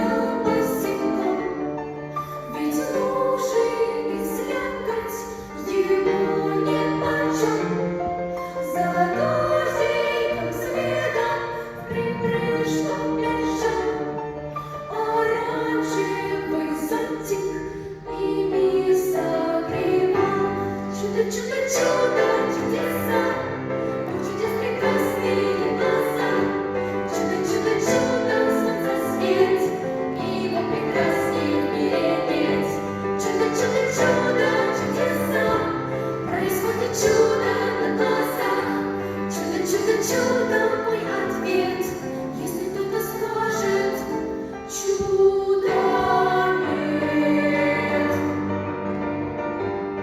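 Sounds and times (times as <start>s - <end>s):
musical accompaniment: 0.0s - 50.0s
vocal ensemble singing: 0.0s - 50.0s.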